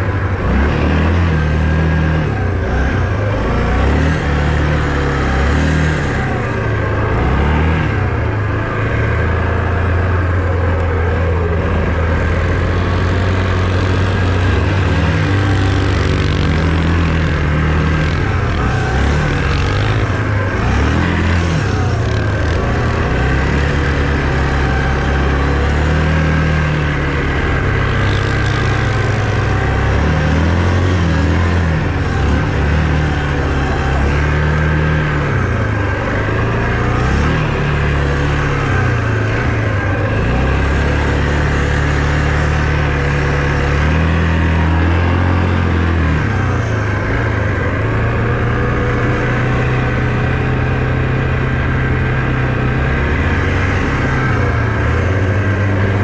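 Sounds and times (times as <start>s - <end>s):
vehicle engine revving: 0.0s - 56.0s.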